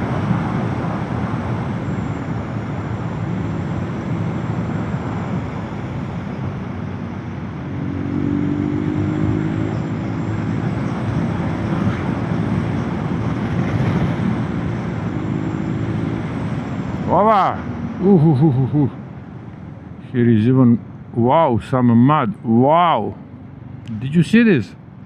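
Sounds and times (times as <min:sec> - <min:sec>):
motorcycle engine and wind rumble: 0:00.0 - 0:25.0.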